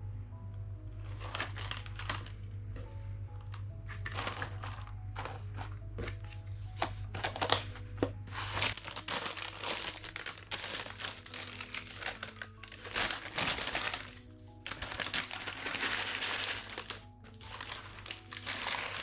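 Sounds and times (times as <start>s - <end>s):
soft background music: 0.0s - 19.0s
items clicking and knocking: 1.0s - 19.0s
plastic packaging crinkling: 1.0s - 19.0s.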